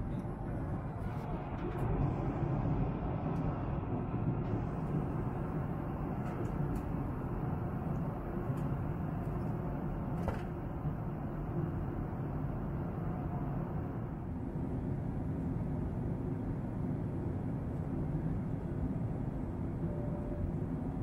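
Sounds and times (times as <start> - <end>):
airliner cabin drone: 0.0 - 21.0.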